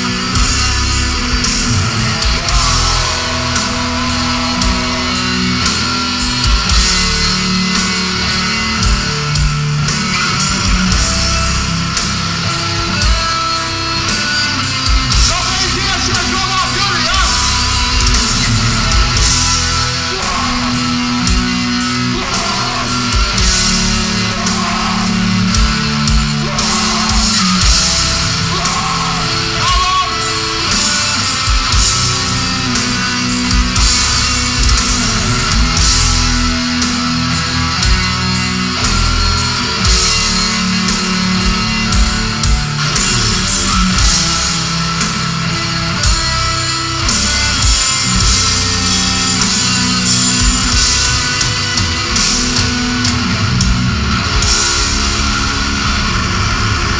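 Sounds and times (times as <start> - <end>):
harsh shouted vocals: 0.0 - 6.9, 15.0 - 56.9
distorted electric guitars and bass: 0.0 - 56.9
pounding drum kit: 0.0 - 56.9.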